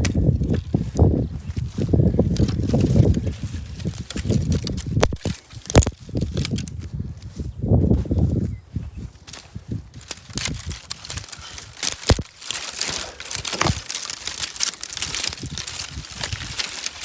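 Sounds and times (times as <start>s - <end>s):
dry sticks snapping: 0.0s - 7.3s, 9.3s - 17.0s
twigs rustling: 0.0s - 17.0s.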